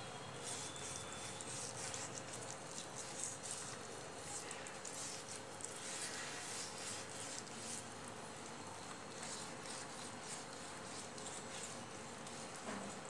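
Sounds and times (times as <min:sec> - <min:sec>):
damp cloth wiping wet clay: 0:00.4 - 0:08.2, 0:08.9 - 0:13.0.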